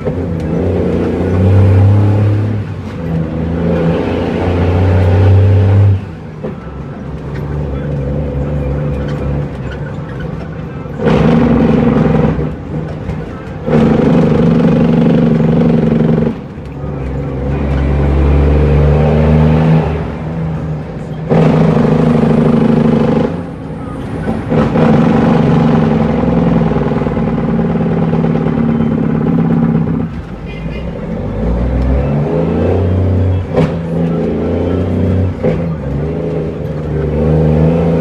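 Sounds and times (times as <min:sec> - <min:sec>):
diesel truck engine shifting gears: 0:00.0 - 0:38.0.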